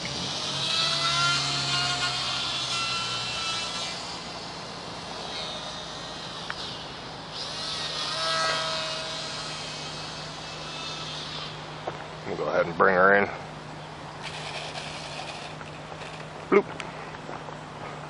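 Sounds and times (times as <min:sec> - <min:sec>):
model plane propeller buzzing: 0:00.0 - 0:12.4, 0:14.1 - 0:16.5.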